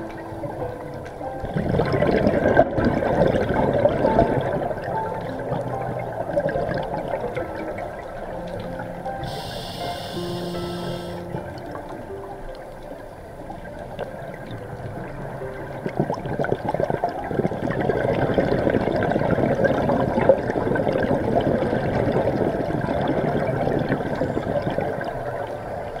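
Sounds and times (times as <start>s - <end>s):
underwater bubbling of exhaled air: 0.0s - 26.0s.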